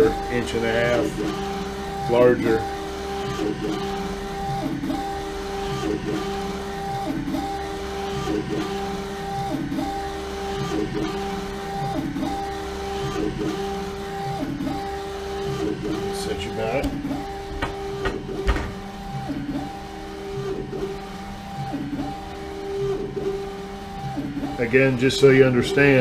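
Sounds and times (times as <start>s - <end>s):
printer humming: 0.0s - 26.0s.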